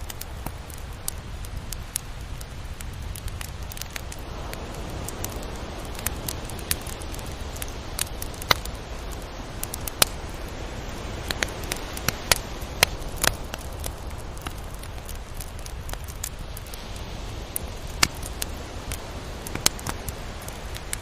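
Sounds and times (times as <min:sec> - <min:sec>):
sharp crackling clicks: 0:00.0 - 0:04.2, 0:05.2 - 0:10.4, 0:11.2 - 0:16.8, 0:17.8 - 0:21.0
steady low wash of noise: 0:00.0 - 0:21.0.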